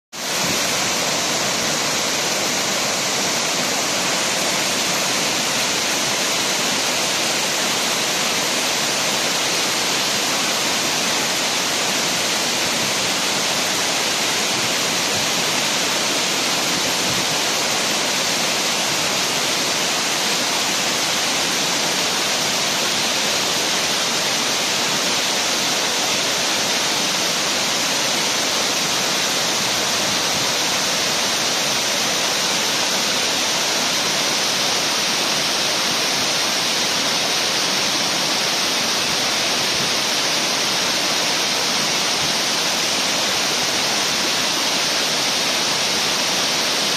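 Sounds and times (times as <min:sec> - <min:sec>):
waterfall rushing: 0:00.2 - 0:46.9.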